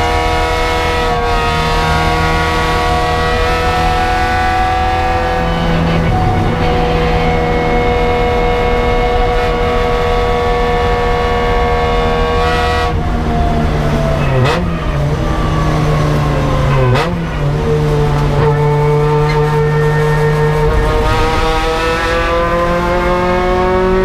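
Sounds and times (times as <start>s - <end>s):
gear changes: 0.0s - 24.0s
race car engine revving: 0.0s - 24.0s.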